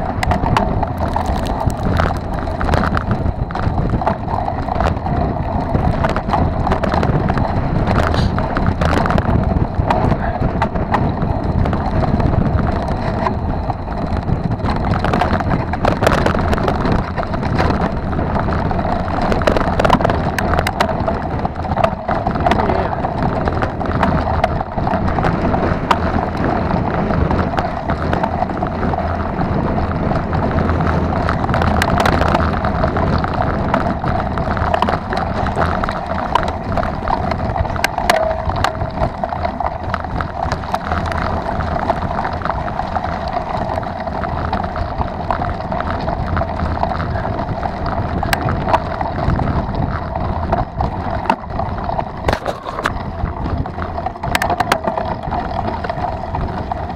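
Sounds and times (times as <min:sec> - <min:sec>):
bike rattling over bumps: 0:00.0 - 0:56.9
bike tyre noise: 0:00.0 - 0:56.9
wind rushing on microphone: 0:00.0 - 0:56.9.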